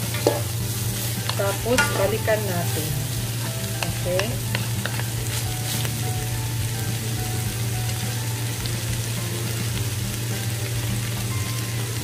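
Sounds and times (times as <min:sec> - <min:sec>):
vegetables sizzling in a hot pan: 0:00.0 - 0:12.0.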